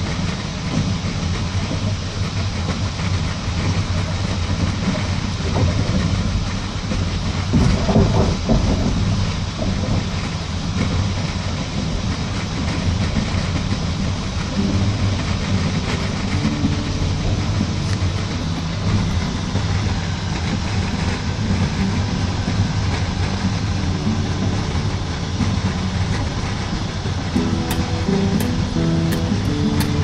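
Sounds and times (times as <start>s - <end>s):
train rumble inside carriage: 0.0s - 30.0s
wheels clacking over rail joints: 0.2s - 30.0s.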